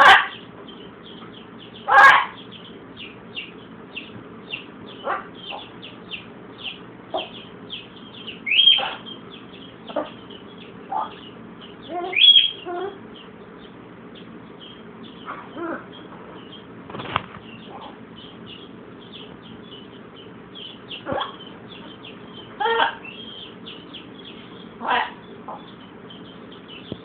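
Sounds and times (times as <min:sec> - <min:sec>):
macaw calls: 0:00.0 - 0:16.7, 0:17.4 - 0:27.0.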